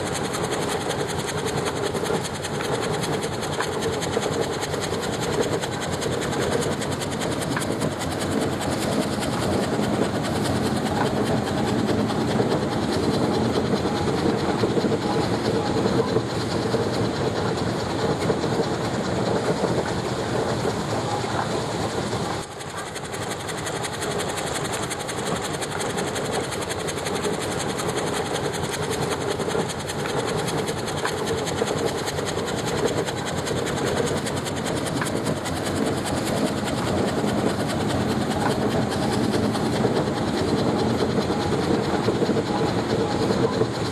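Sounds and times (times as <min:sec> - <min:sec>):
steam traction engine clatter: 0:00.0 - 0:43.9.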